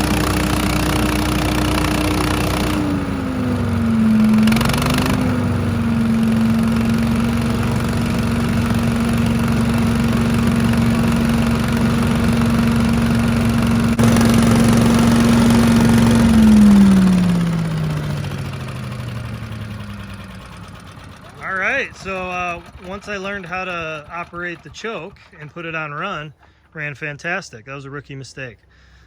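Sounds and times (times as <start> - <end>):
small gasoline engine running: 0.0 - 26.8.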